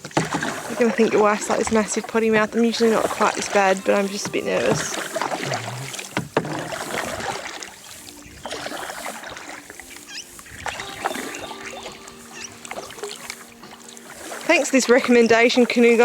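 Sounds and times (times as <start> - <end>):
paddle splashing in water: 0.0 - 16.0.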